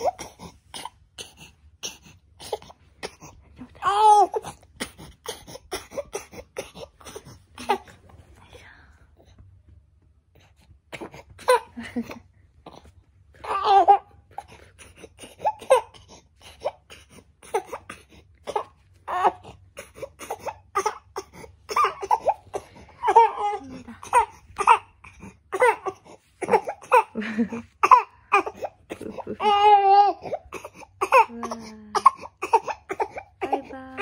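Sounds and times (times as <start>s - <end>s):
baby whimpering cries: 0.0s - 8.0s, 12.7s - 27.2s, 27.8s - 34.0s.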